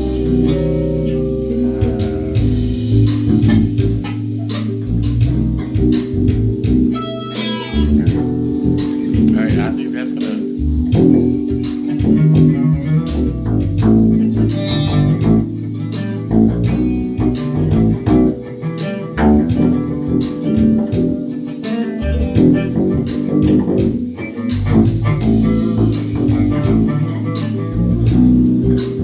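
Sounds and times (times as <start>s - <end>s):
bass guitar plucked notes: 0.0s - 29.0s.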